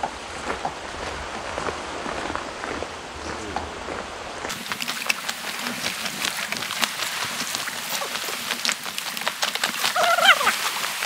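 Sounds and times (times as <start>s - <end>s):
steady rushing noise: 0.0s - 9.6s
footsteps crunching on stony path: 0.0s - 11.0s.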